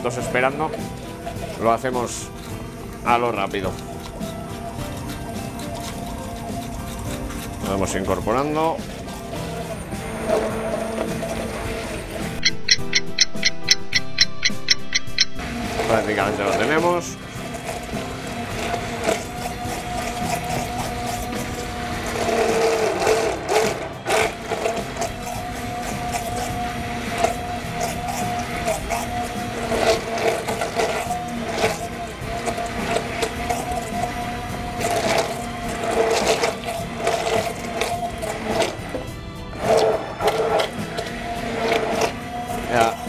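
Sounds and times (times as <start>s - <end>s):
immersion blender running: 0.0s - 12.4s, 15.4s - 43.0s.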